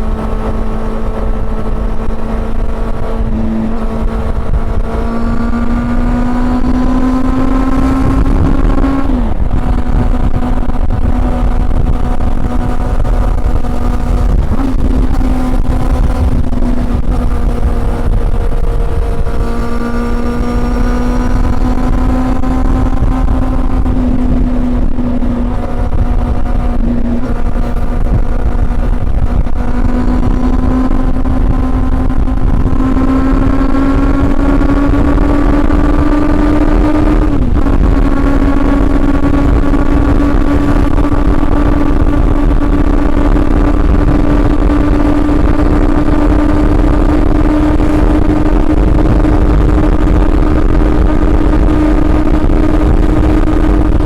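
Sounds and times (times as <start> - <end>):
low wind rumble: 0.0 - 54.0
motorcycle engine running: 0.0 - 54.0.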